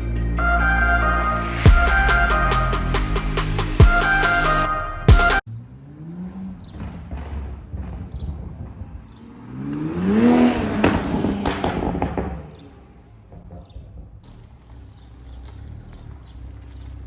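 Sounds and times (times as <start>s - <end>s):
car driving past: 0.0s - 17.0s.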